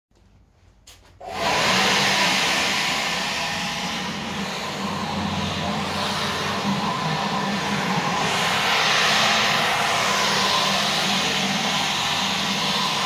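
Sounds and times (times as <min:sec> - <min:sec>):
leaf blower rushing air: 0:01.2 - 0:13.0.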